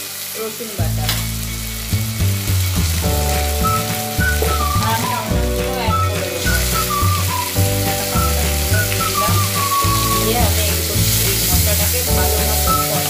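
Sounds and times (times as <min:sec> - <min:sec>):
food sizzling in hot oil: 0:00.0 - 0:13.0
background music with bass line: 0:00.8 - 0:13.0.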